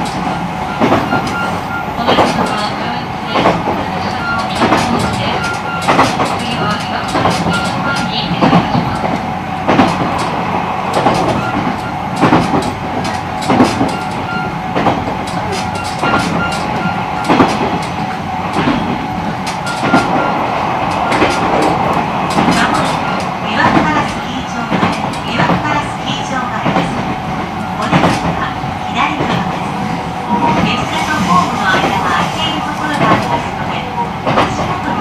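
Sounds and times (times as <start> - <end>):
train interior rumble: 0.0 - 35.0.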